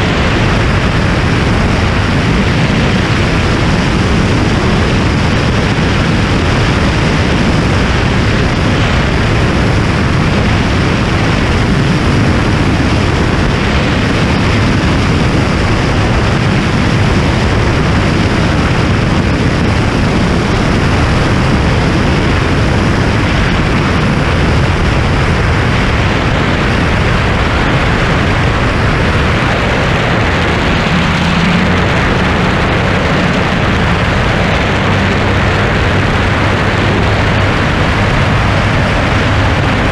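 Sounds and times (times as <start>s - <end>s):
airplane engine drone: 0.0s - 39.9s
wind rushing on microphone: 0.0s - 39.9s.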